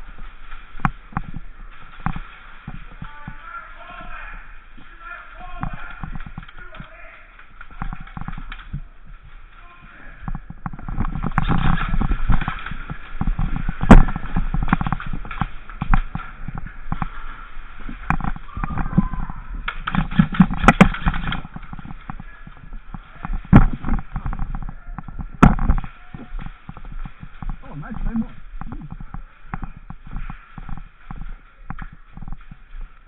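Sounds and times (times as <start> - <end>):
footsteps: 0.0 - 33.0
gear knocking: 0.0 - 33.0.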